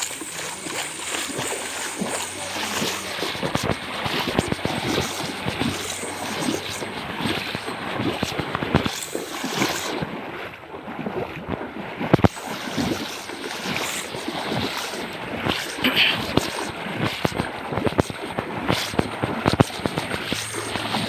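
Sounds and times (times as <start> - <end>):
rough rushing noise: 0.0 - 10.1, 12.2 - 21.0
water sloshing and splashing: 0.0 - 21.0.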